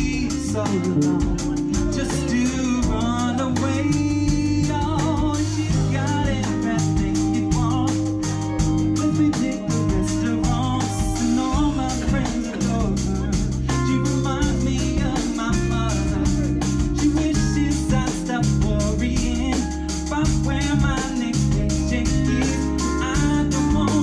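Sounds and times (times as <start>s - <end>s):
drum kit beat: 0.0s - 24.0s
electric bass: 0.0s - 24.0s
electric guitar: 0.0s - 24.0s
electric keyboard: 0.0s - 24.0s
man singing lead vocal: 0.0s - 24.0s.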